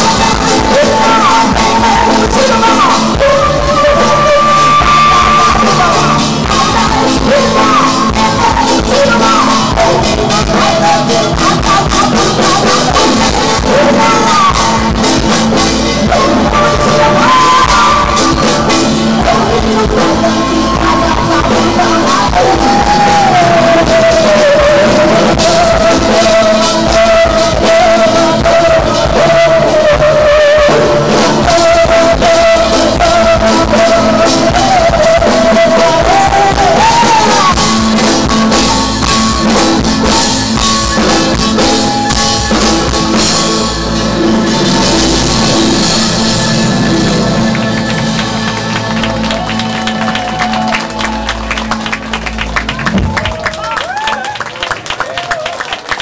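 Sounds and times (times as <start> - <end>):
long smooth melody line: 0.0 - 55.1
live band playing fusion music: 0.0 - 56.0.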